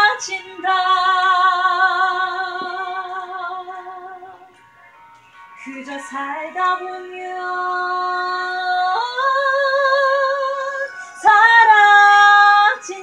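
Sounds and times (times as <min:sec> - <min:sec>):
woman singing slow song: 0:00.0 - 0:04.5, 0:05.6 - 0:13.0.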